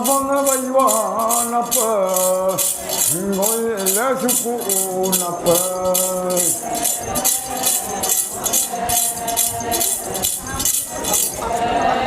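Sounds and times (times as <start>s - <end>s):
metal jingles shaken: 0.0s - 11.6s
faint singing voices: 0.0s - 12.0s.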